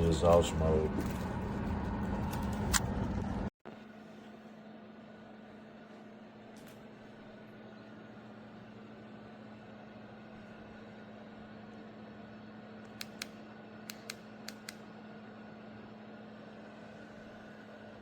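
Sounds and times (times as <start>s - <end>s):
fan rushing air: 0.0s - 3.5s, 4.8s - 18.0s
fan hum with low tone: 0.0s - 18.0s.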